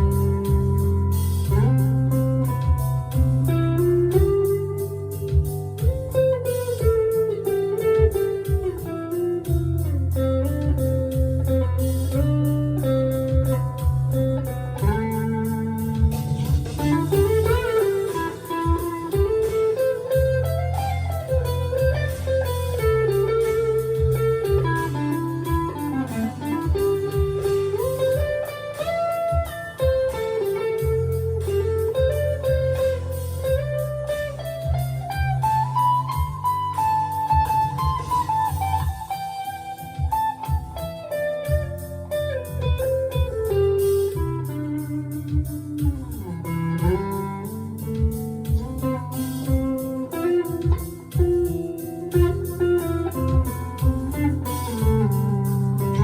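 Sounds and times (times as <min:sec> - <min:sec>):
electric guitar lead melody: 0:00.0 - 0:56.0
steady beat: 0:00.0 - 0:56.0.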